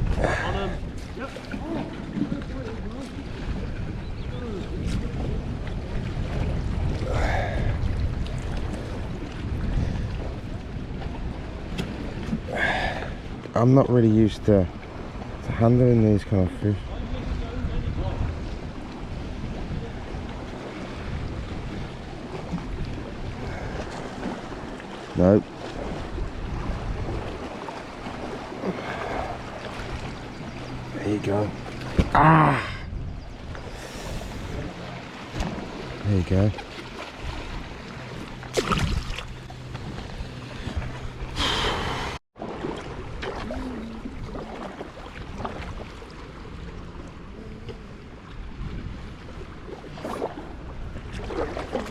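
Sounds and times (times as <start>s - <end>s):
sea water washing: 0.0s - 51.9s
wind buffeting microphone: 0.0s - 51.9s.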